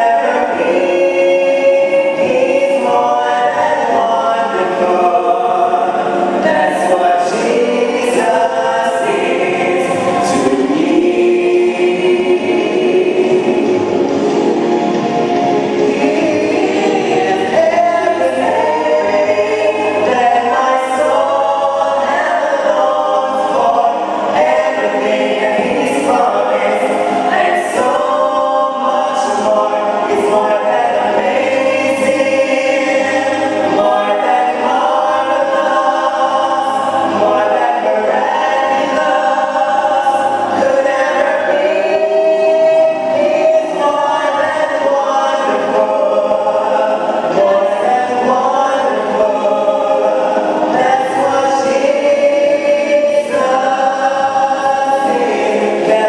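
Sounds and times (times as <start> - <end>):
choir singing gospel: 0.0 - 56.0.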